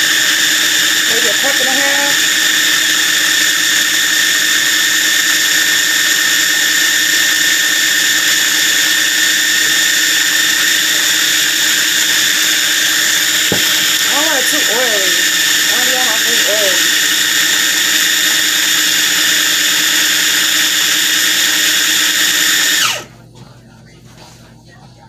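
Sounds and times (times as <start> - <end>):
food processor motor whining: 0.0 - 23.1.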